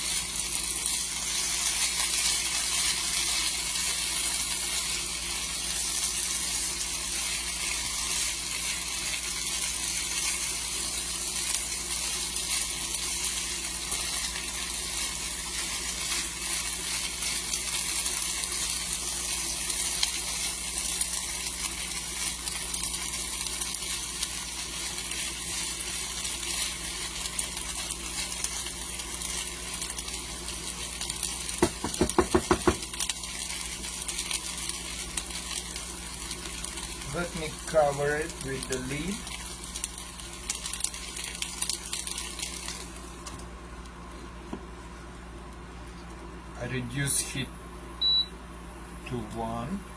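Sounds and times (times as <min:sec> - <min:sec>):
potatoes sizzling in a pan: 0:00.0 - 0:44.8.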